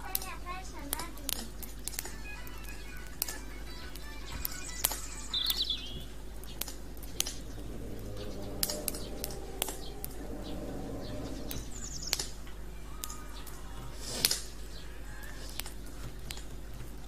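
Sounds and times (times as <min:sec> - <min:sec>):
campfire crackling and popping: 0:00.0 - 0:10.4, 0:12.0 - 0:17.0
small birds chirping: 0:00.0 - 0:17.0.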